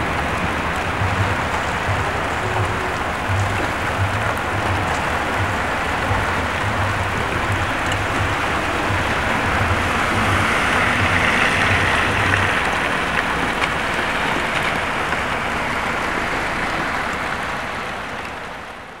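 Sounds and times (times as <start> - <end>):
low rumble: 0.0 - 17.4
heavy rain hissing: 0.0 - 19.0.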